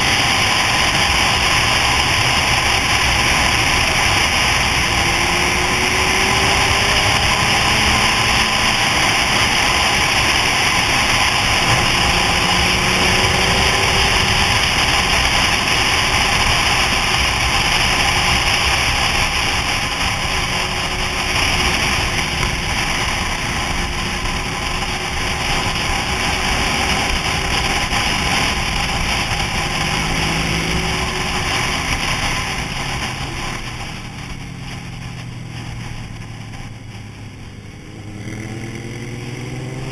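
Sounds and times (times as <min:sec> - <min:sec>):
wind rush over microphone: 0:00.0 - 0:37.8
motorcycle engine running: 0:00.0 - 0:39.9.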